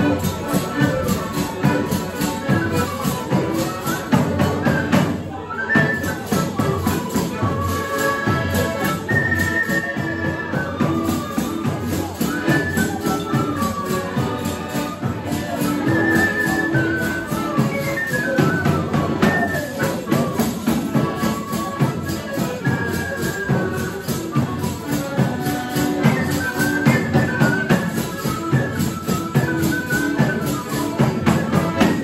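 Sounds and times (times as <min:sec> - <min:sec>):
accordion: 0:00.0 - 0:32.0
fipple flute melody: 0:00.0 - 0:32.0.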